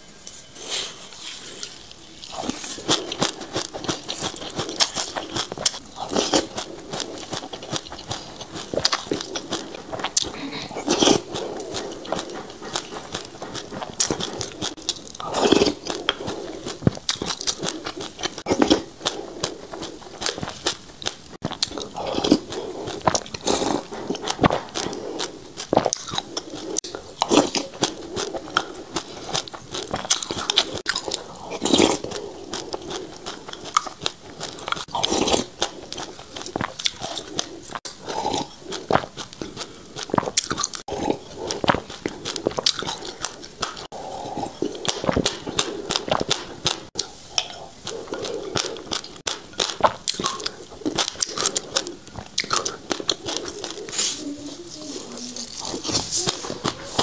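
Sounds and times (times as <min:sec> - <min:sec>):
crunching and chewing seeds: 0:00.2 - 0:57.0.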